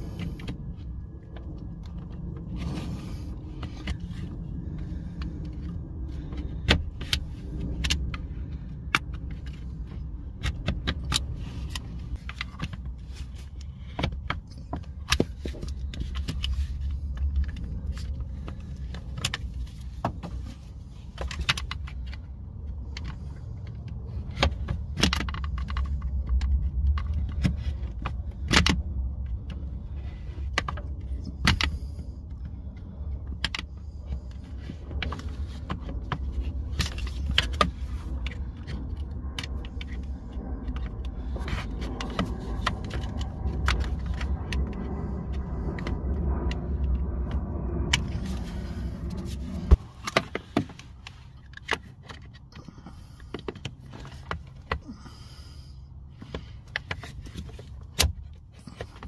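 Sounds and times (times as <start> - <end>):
low rumble: 0.0 - 58.9.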